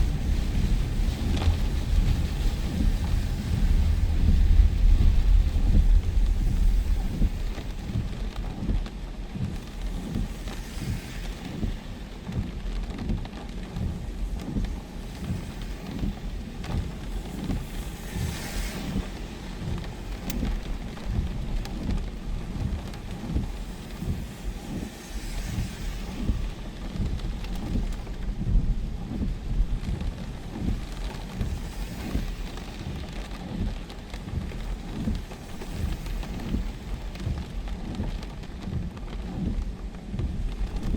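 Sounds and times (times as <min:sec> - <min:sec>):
low rumble: 0:00.0 - 0:40.9.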